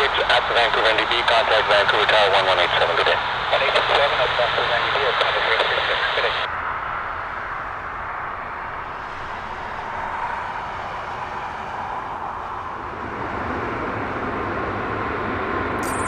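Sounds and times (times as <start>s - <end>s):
jet airliner engine rush: 0.0s - 16.0s.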